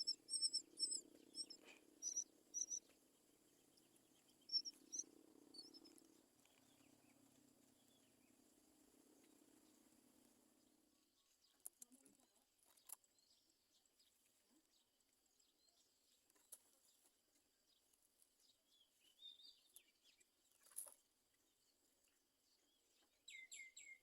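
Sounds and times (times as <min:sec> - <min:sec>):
faint bird chirps: 0:00.0 - 0:08.4, 0:10.6 - 0:20.7, 0:21.4 - 0:24.0.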